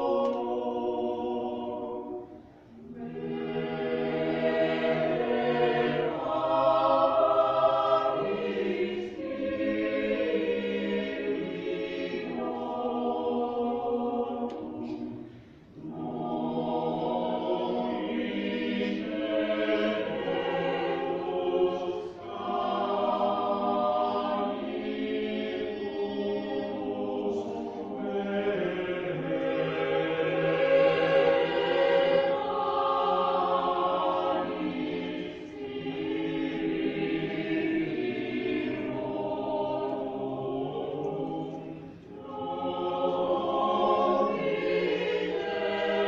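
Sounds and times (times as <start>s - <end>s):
mixed choir singing: 0.0s - 46.0s.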